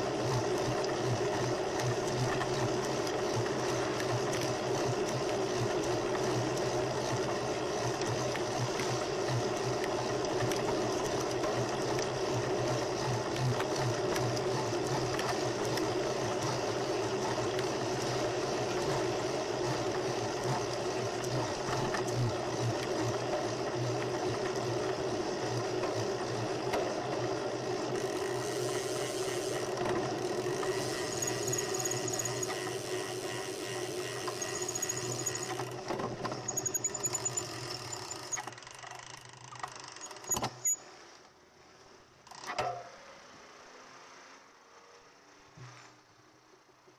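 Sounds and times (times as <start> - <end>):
bicycle whirring rumble: 0.0 - 40.8.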